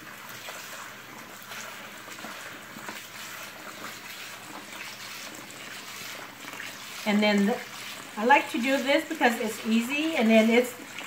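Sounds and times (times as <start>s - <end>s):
faucet water running into bowl: 0.0s - 11.0s
hand swishing rice in water: 0.0s - 11.0s.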